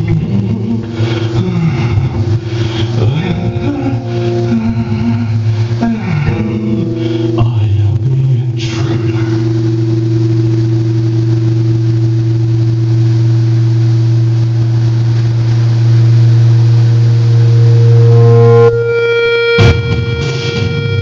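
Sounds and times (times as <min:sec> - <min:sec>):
distorted electric guitar drone: 0:00.0 - 0:21.0.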